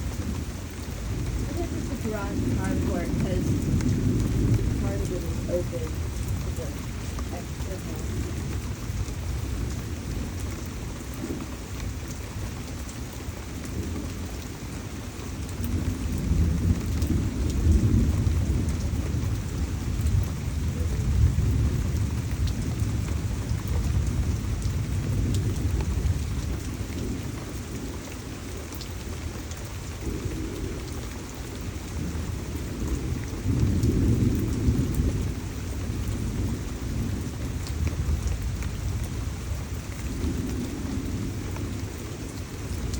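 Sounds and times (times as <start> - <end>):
heavy rain: 0.0 - 42.9
low rolling thunder: 0.0 - 42.9.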